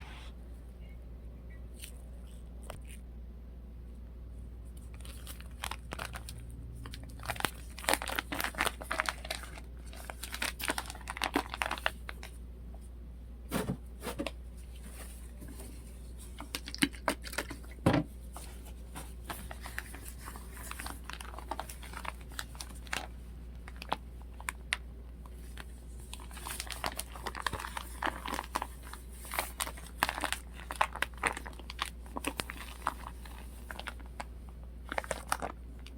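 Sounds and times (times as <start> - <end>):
steady low hum: 0.0 - 35.9
plastic crinkling and rustling: 4.7 - 12.4, 13.5 - 35.9.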